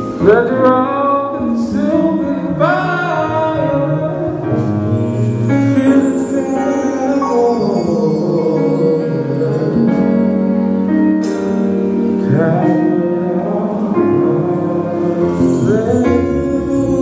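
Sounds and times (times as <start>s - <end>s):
man singing gospel: 0.0s - 10.8s, 12.1s - 17.0s
band accompaniment: 0.0s - 17.0s.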